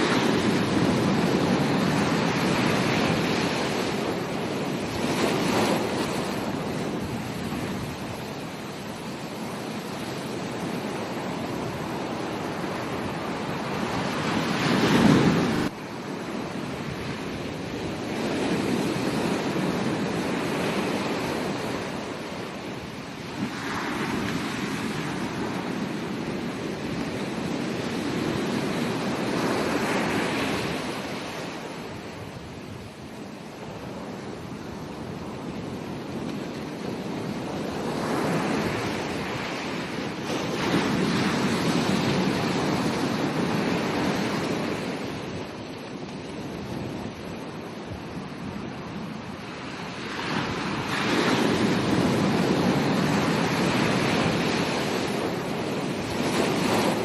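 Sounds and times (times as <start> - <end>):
ocean waves breaking: 0.0 - 57.0
wind on microphone: 0.0 - 57.0.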